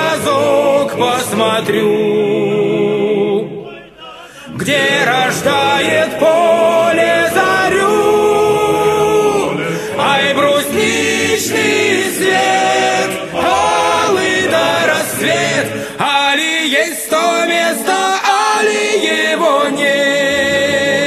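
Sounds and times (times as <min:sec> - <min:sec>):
choir singing a cappella: 0:00.0 - 0:21.0.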